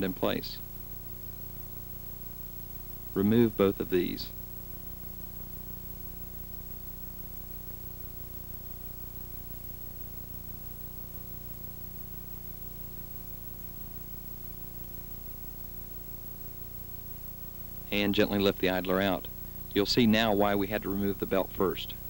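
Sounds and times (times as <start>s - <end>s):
electrical hum: 0.0s - 22.0s
tape hiss: 0.0s - 22.0s.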